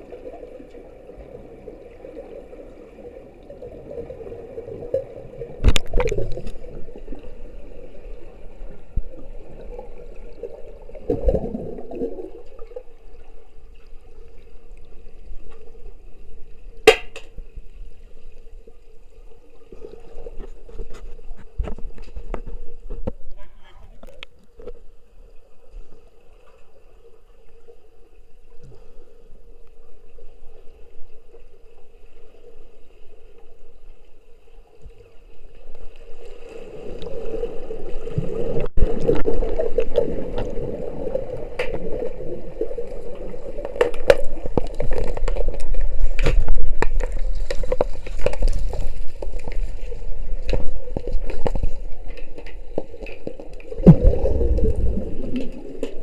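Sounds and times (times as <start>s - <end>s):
faint steady hum: 0.0s - 56.0s
water sloshing and gurgling: 0.0s - 56.0s.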